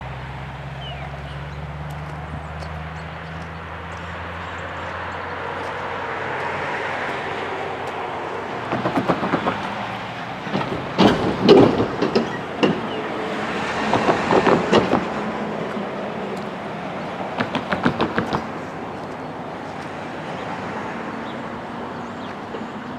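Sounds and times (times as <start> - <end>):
freight train rumbling past: 0.0 - 22.9
wheels clacking over rail joints: 0.0 - 22.9.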